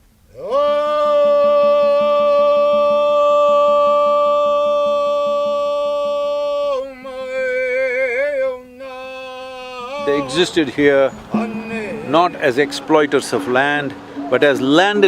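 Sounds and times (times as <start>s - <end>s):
person singing long note: 0.3s - 12.9s.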